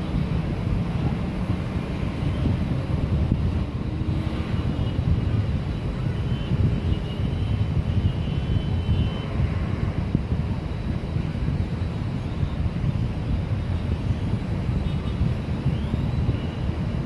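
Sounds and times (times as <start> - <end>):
city street traffic rumble: 0.0 - 17.0
wind on microphone: 0.0 - 17.0.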